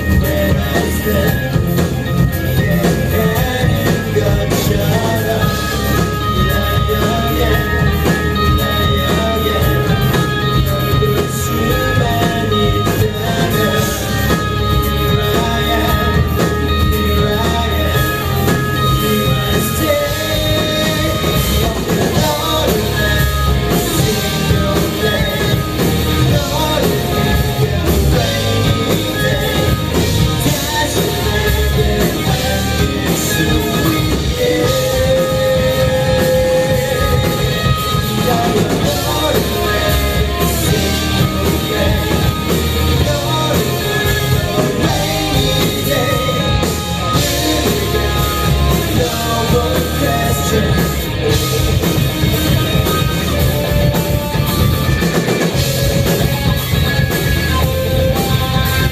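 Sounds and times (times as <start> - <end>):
drum kit: 0.0 - 58.9
electric guitar: 0.0 - 58.9
live rock band playing: 0.0 - 58.9
person singing: 0.0 - 58.9.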